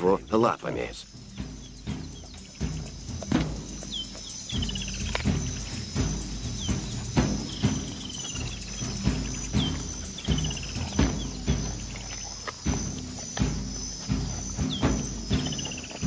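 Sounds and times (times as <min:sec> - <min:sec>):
high trilling call: 0:00.0 - 0:16.0
insects buzzing: 0:00.0 - 0:16.0
low sustained music: 0:00.0 - 0:16.0.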